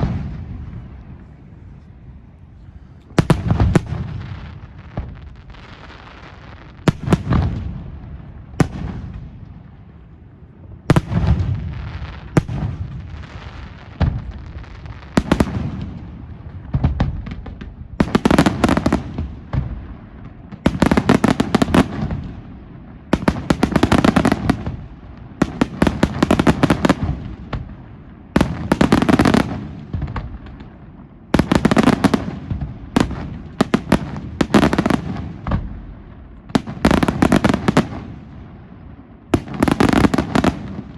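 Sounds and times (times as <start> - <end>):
firework crackling volleys: 0.0 - 40.9.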